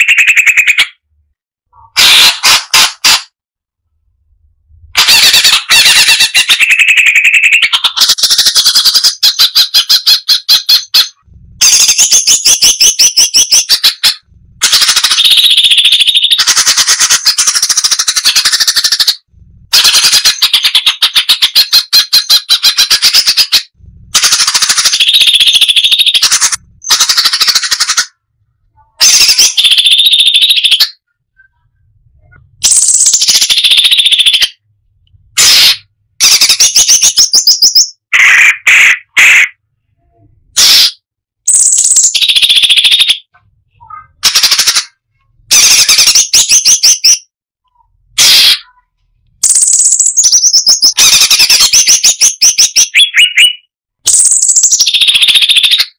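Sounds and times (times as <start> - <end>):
bird singing harsh chattering notes: 0.0 - 1.0, 5.0 - 28.2, 29.0 - 34.6, 35.4 - 39.5, 40.6 - 47.3, 49.4 - 55.9.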